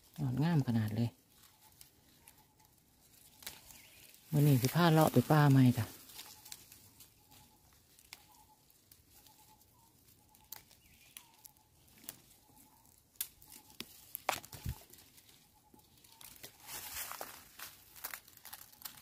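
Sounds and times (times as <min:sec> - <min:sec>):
shoots snapping and leaves rustling: 0:00.0 - 0:19.0.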